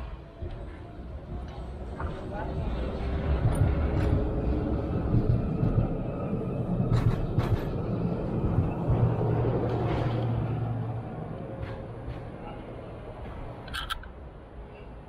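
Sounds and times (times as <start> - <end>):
electric tram rumbling on rails: 0.0 - 15.0.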